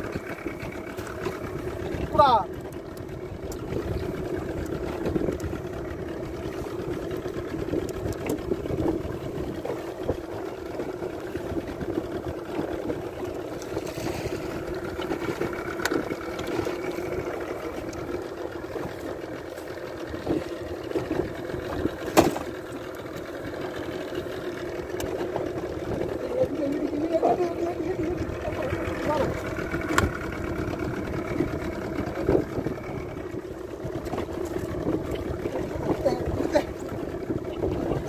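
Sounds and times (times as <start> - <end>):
boat engine idling: 0.0 - 38.0.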